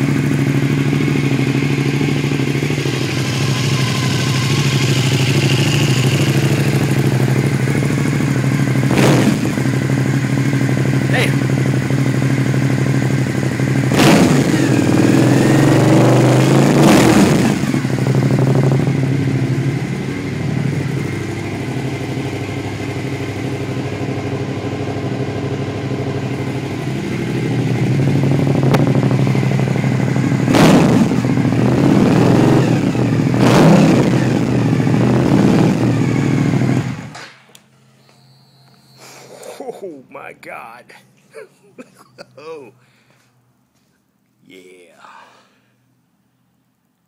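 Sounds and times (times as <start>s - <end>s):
motorcycle engine revving: 0.0s - 39.3s.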